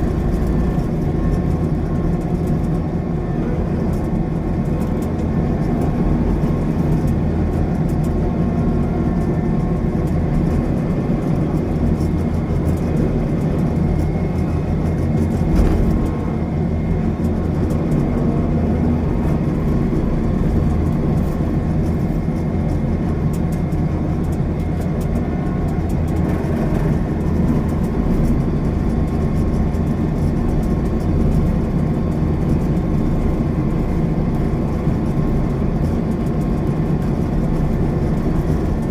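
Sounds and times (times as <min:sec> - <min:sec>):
combine harvester engine rumbling: 0:00.0 - 0:38.9.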